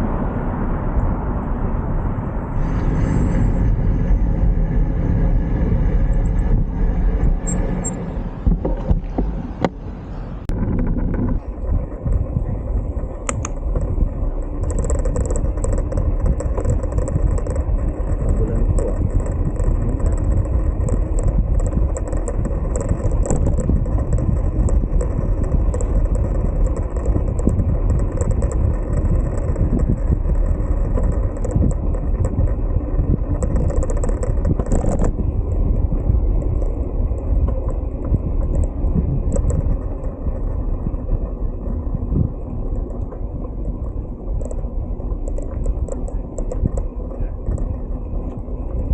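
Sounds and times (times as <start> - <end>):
wind and road rumble: 0.0 - 48.9.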